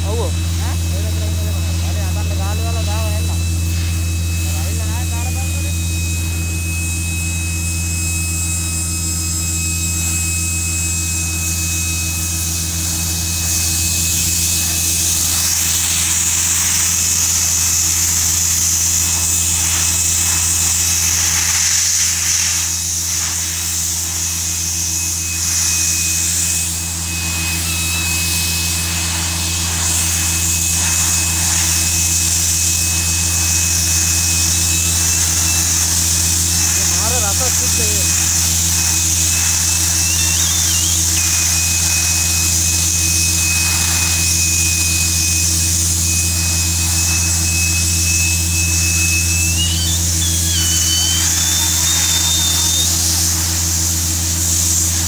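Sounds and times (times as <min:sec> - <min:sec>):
spray lance hissing: 0:00.0 - 0:06.4, 0:11.4 - 0:55.0
engine and pump running: 0:00.0 - 0:55.0.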